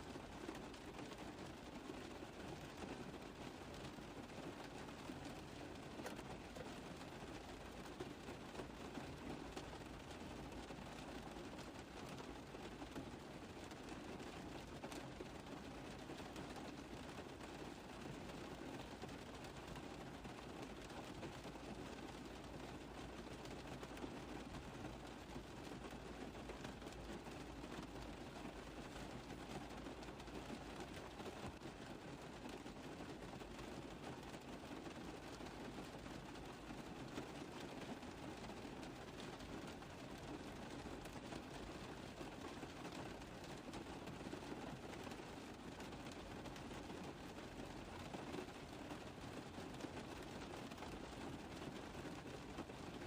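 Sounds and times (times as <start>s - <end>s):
rain on a car roof: 0.0s - 53.0s.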